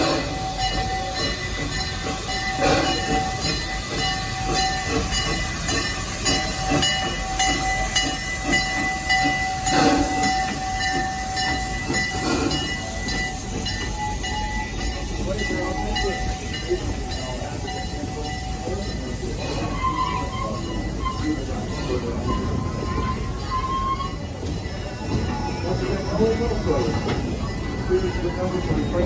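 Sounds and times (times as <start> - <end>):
steam hissing: 0.0 - 29.0
steam locomotive running: 0.0 - 29.0.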